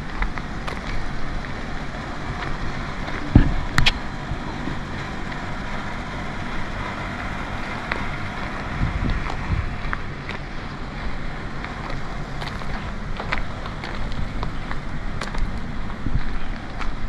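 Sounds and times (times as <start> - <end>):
low rumble: 0.0 - 17.0
wind buffeting microphone: 0.0 - 17.0.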